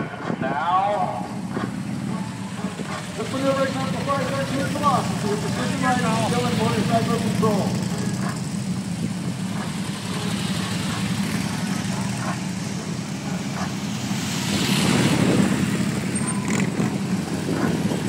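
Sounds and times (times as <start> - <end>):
motorcycle engines droning: 0.0 - 18.0.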